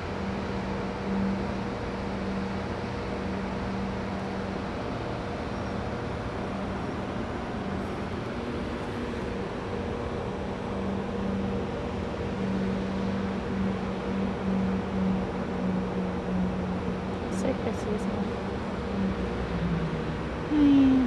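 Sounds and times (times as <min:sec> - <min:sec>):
constant low hum: 0:00.0 - 0:21.0
distant traffic rush: 0:01.0 - 0:21.0.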